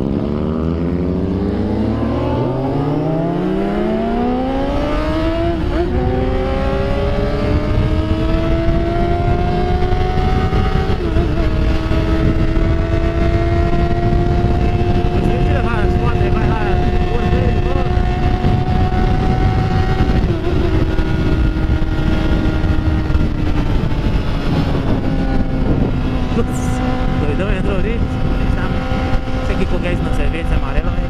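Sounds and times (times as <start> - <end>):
motorcycle engine accelerating: 0.0 - 31.0
wind rumble on microphone: 0.0 - 31.0.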